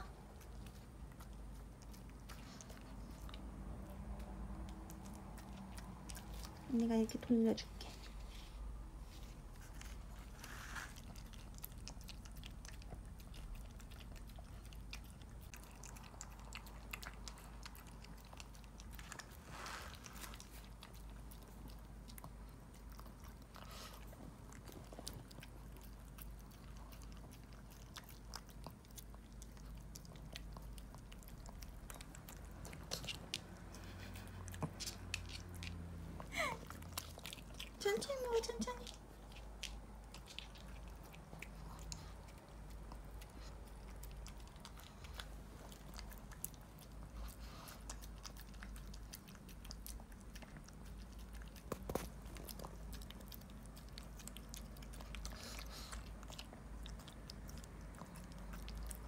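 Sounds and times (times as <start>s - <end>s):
dog chewing wet food: 0.0s - 59.0s.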